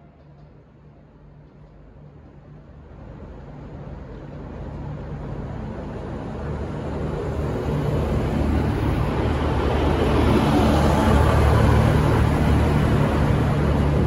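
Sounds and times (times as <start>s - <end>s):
diesel train engine drone: 0.0s - 14.0s
train rolling noise: 0.0s - 14.0s.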